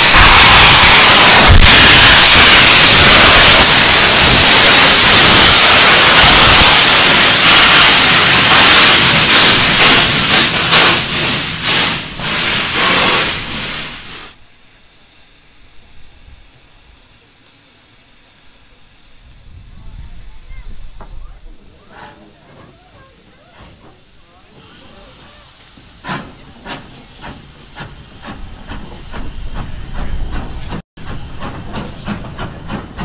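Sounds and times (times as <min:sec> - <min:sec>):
steam locomotive hissing: 0:00.0 - 0:33.0.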